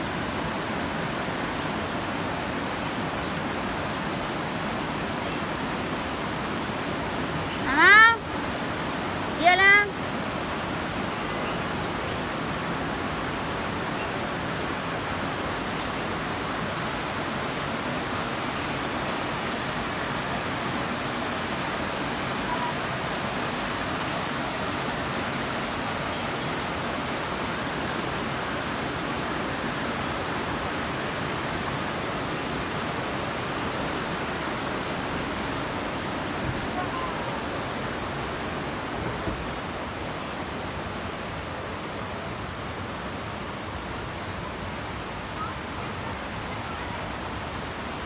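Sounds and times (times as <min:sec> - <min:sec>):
water rushing over rocks: 0:00.0 - 0:48.0.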